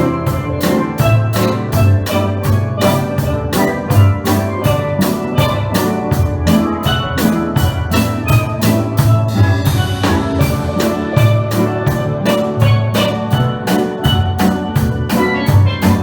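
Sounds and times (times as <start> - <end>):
drum kit beat: 0.0 - 16.0
steel pan band playing: 0.0 - 16.0.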